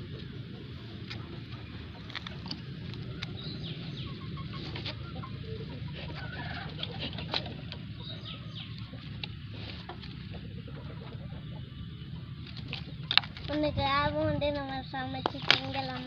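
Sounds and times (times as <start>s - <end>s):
chickens clucking: 0.0s - 16.0s
steady low rumble: 0.0s - 16.0s.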